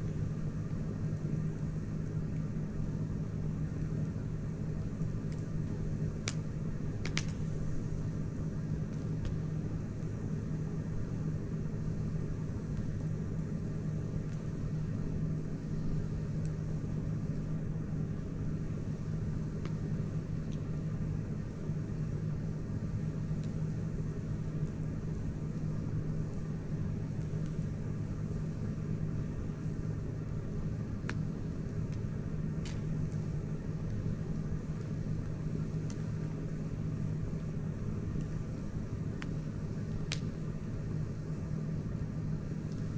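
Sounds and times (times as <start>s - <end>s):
burning wood popping: 0.0s - 10.2s, 12.0s - 42.9s
campfire burning: 0.0s - 42.9s.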